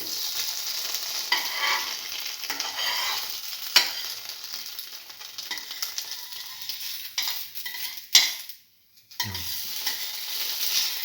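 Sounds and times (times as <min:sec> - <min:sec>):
french toast sizzling in oil: 0:00.0 - 0:11.0.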